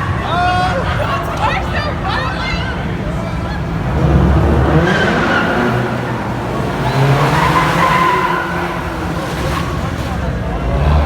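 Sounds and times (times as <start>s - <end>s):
car tires squealing: 0.0s - 11.0s
low engine rumble: 0.0s - 11.0s.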